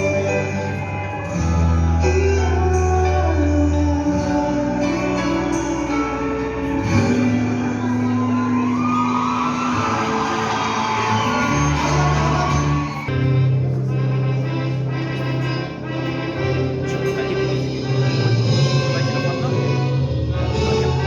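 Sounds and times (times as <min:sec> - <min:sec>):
slow instrumental music: 0:00.0 - 0:21.0.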